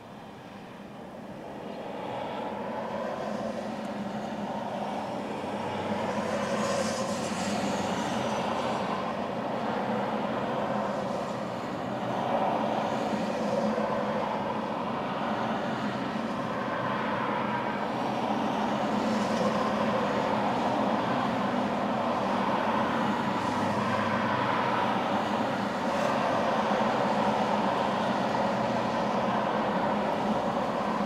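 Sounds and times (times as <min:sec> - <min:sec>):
highway traffic: 0:00.0 - 0:31.0.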